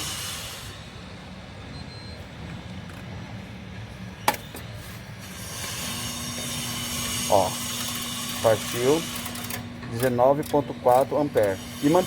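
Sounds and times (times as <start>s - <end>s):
compressor electrical hum: 0.0s - 12.0s.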